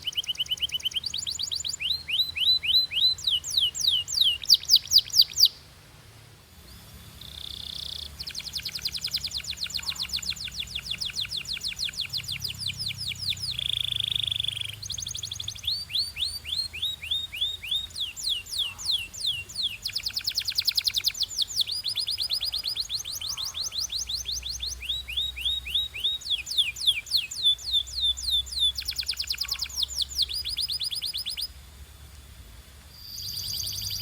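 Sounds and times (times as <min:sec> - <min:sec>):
canary singing trills: 0:00.0 - 0:05.6, 0:06.6 - 0:31.6, 0:33.0 - 0:34.0.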